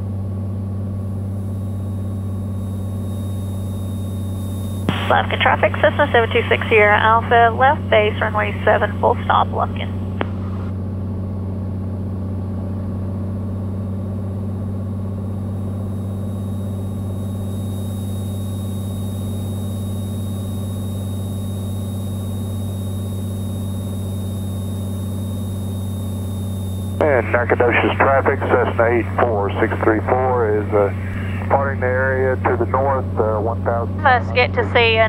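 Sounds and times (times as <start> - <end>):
airplane engine and propeller droning: 0.0 - 35.0.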